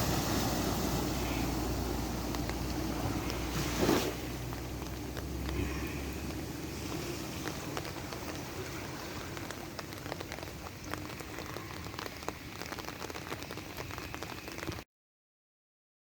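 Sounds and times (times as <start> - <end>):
rain on hard surfaces: 0.0 - 14.8.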